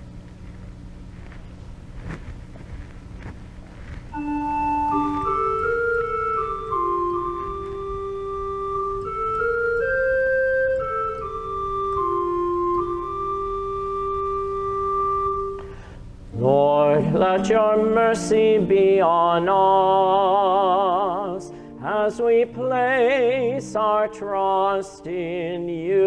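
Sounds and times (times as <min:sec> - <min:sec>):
low hum: 0:00.0 - 0:26.0
organ playing chords: 0:03.8 - 0:26.0.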